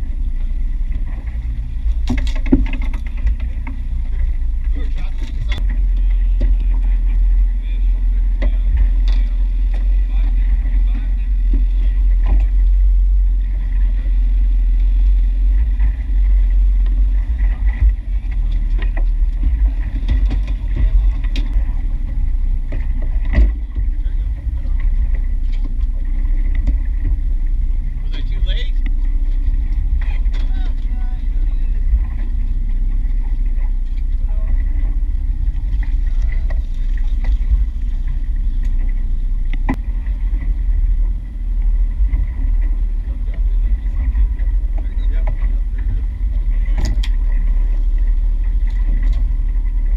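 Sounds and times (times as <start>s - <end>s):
low rumble of boat: 0.0s - 49.9s
outboard motor running: 0.0s - 49.9s.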